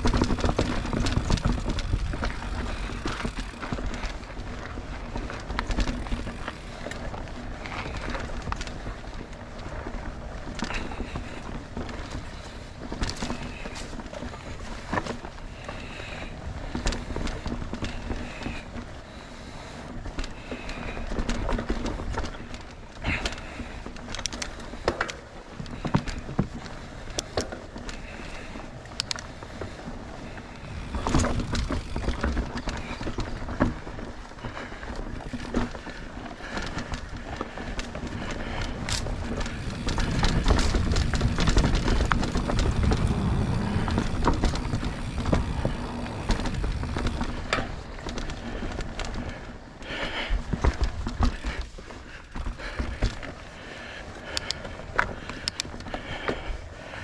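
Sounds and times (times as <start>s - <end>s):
bike clicks and rattles: 0.0s - 57.0s
bike tyres rolling on dirt: 0.0s - 57.0s.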